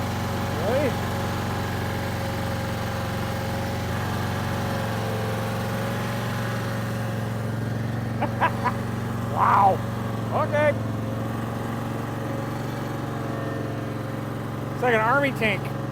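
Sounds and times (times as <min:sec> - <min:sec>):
engine running at high throttle: 0:00.0 - 0:15.9.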